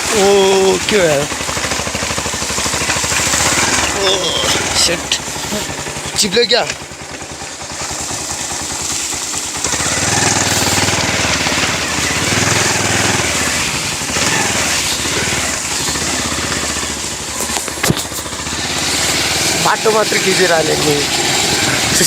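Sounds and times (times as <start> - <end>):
broad rushing noise: 0.0 - 22.0
motorcycle engine running: 0.0 - 22.0.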